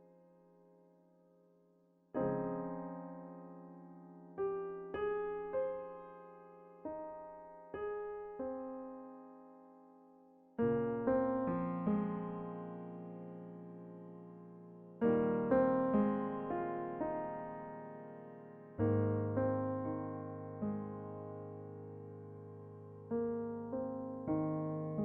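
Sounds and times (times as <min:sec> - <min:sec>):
gentle electric piano melody: 0:02.1 - 0:25.0.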